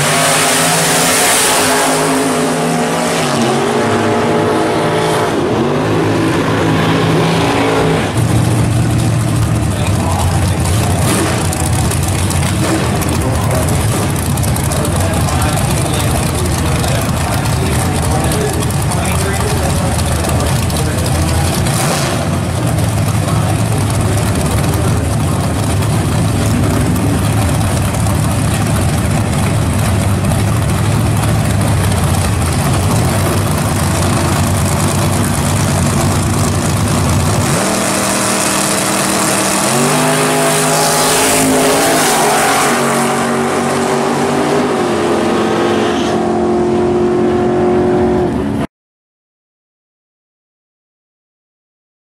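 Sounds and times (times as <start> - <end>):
race car engines rumbling: 0.0 - 48.7
race cars accelerating away: 0.0 - 48.7.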